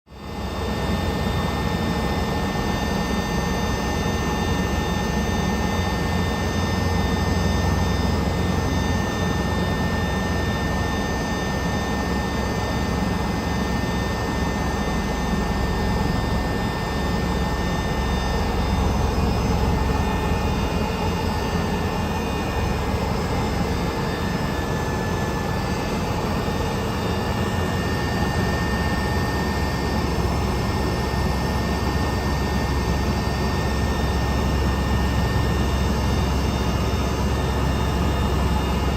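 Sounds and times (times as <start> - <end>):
aircraft engine drone: 0.2 - 38.9.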